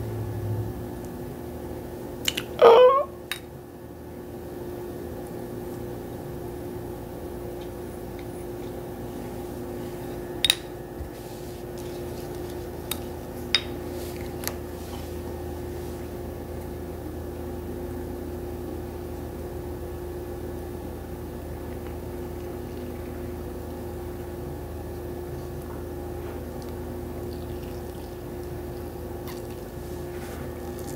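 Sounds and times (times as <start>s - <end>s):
steady hum: 0.0s - 30.9s.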